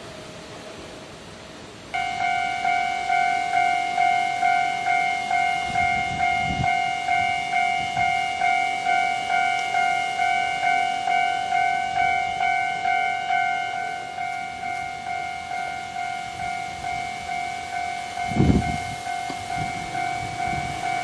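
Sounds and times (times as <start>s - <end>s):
level crossing warning bell: 1.9s - 21.0s.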